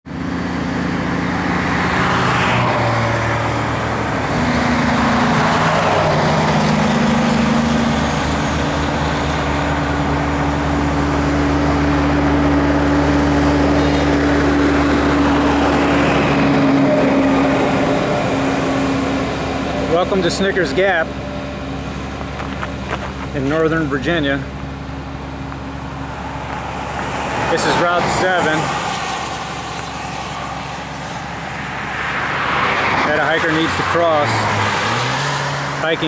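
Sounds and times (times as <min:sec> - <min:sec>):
heavy diesel engine drone: 0:00.0 - 0:36.0
vehicles passing on highway: 0:00.0 - 0:36.0.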